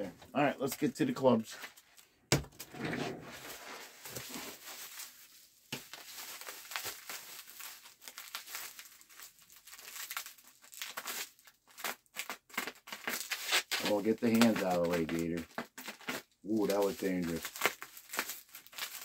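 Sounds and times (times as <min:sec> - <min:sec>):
packaging crinkling and tearing: 0:03.3 - 0:19.0.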